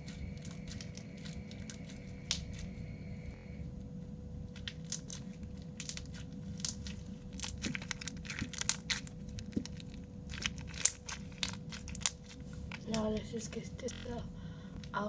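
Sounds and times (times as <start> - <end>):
crunchy slime crackling: 0.0 - 3.0, 3.8 - 15.0.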